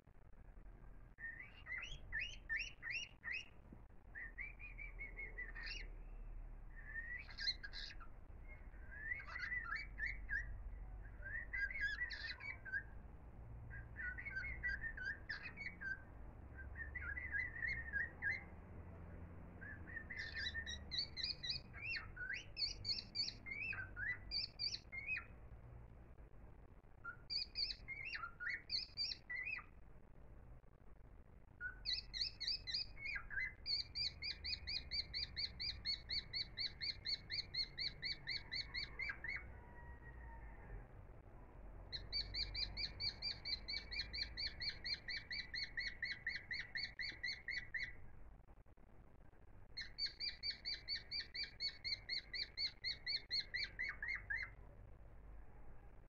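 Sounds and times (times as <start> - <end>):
songbird chirping and twittering: 0.0 - 56.0.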